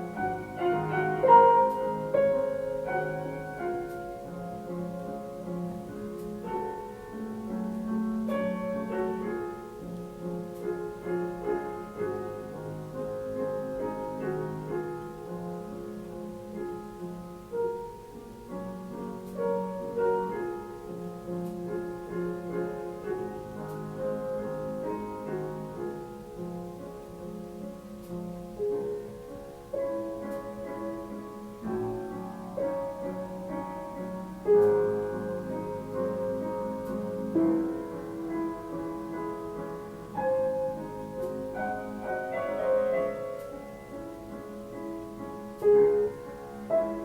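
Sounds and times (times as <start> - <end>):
slow piano piece: 0.0 - 47.0.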